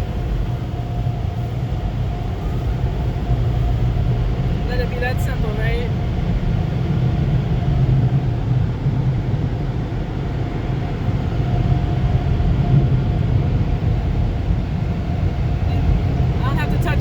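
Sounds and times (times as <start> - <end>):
car wash blowers rumbling: 0.0 - 17.0.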